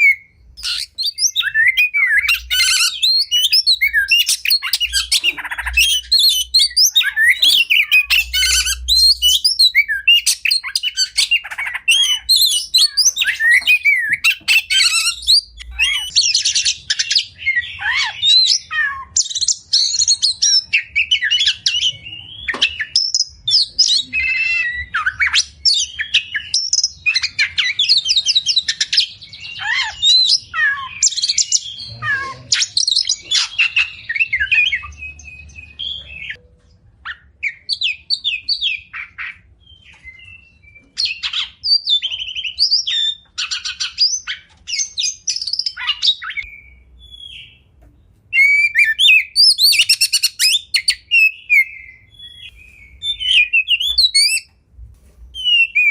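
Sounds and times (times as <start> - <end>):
bird singing varied song: 0.0 - 54.7, 55.3 - 55.9.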